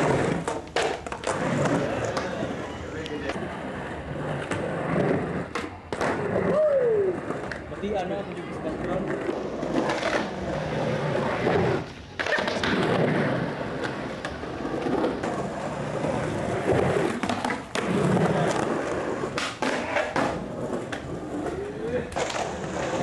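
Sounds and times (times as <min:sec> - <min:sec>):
skateboard clacking on ground: 0:00.0 - 0:03.6, 0:07.2 - 0:23.0
skateboard wheels rolling on pavement: 0:00.0 - 0:23.0.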